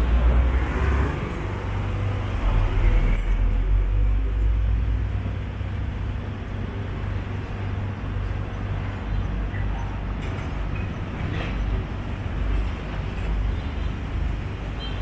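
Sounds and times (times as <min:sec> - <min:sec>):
motor vehicle rumble: 0:00.0 - 0:15.0
road noise: 0:00.0 - 0:15.0.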